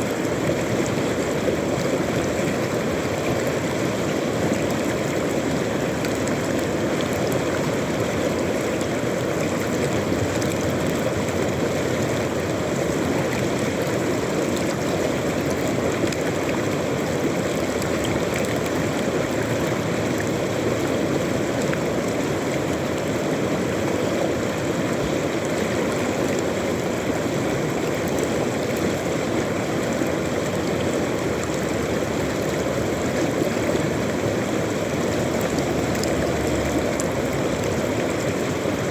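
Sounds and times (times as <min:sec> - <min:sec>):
river water rushing over stones: 0:00.0 - 0:38.9.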